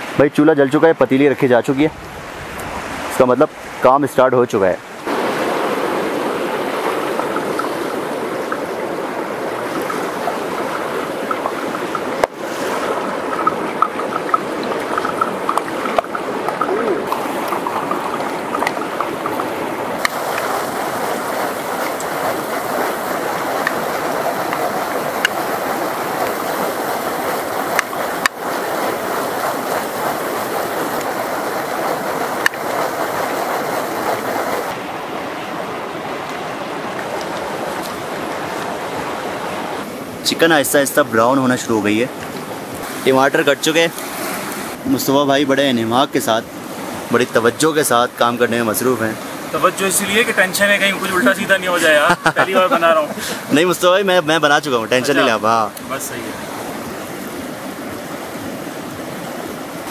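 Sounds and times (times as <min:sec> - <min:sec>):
fast river rushing: 0:00.0 - 0:59.9.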